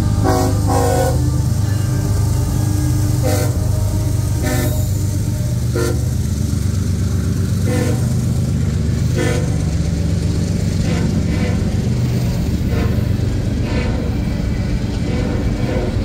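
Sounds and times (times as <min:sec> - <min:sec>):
freight train rumbling past: 0:00.0 - 0:16.0
train wheels clanking over rail joints: 0:00.0 - 0:16.0.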